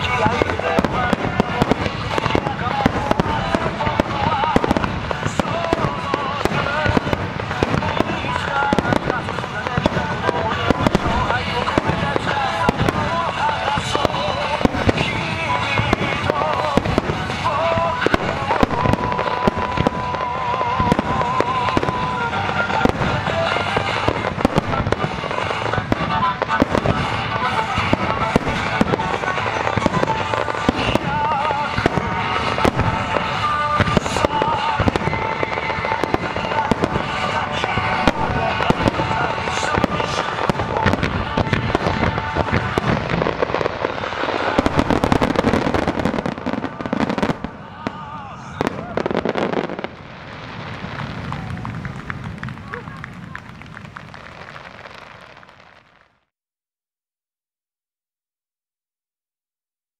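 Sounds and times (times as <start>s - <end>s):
fireworks bursting: 0.0s - 56.3s.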